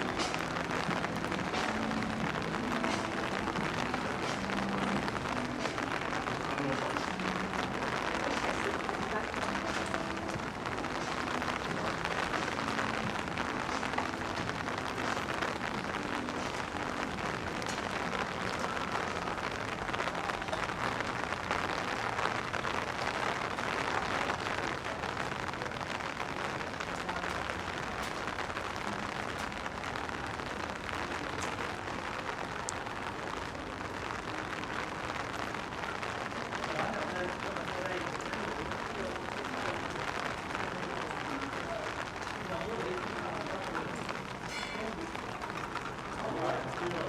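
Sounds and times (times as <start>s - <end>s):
rain on hard surfaces: 0.0s - 47.0s.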